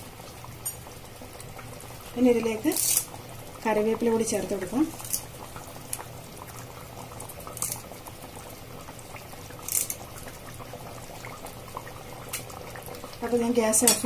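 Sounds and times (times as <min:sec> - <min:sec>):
curry bubbling in pot: 0:00.0 - 0:14.0.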